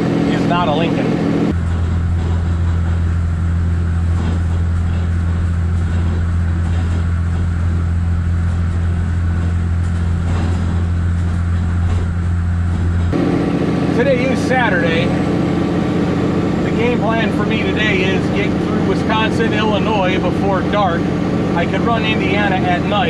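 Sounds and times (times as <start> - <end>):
diesel truck engine drone: 0.0 - 23.0.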